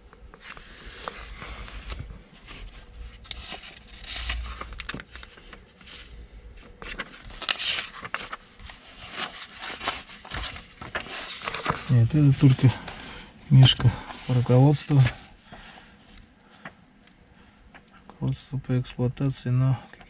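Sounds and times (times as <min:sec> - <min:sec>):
paper pages turning: 0:00.3 - 0:16.7.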